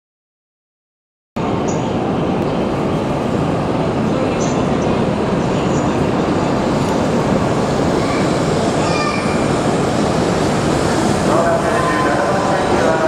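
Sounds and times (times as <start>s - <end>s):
bullet train rumble and rush: 1.4s - 13.0s.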